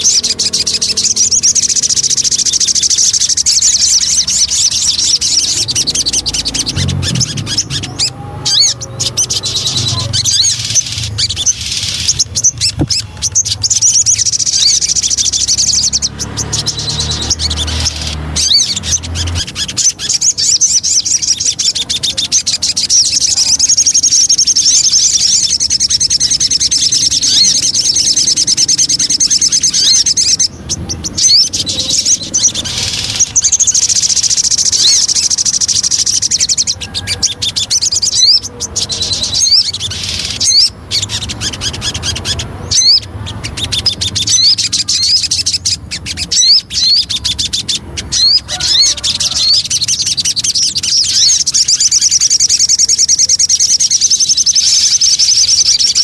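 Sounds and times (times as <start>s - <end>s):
bird singing fast trills: 0.0s - 56.0s.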